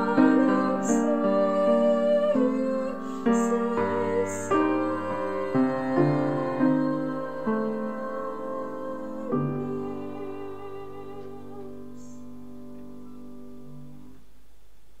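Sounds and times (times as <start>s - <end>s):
girl singing with vibrato: 0.0s - 12.2s.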